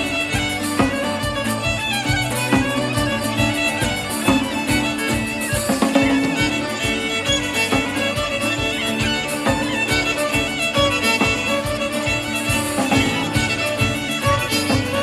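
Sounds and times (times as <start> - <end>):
fiddle melody: 0.0 - 15.0
percussive beat: 0.0 - 15.0.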